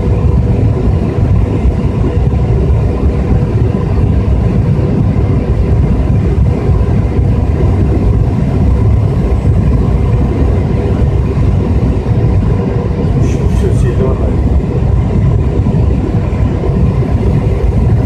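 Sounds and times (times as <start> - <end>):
jet engine rumble and rushing air: 0.0 - 18.0.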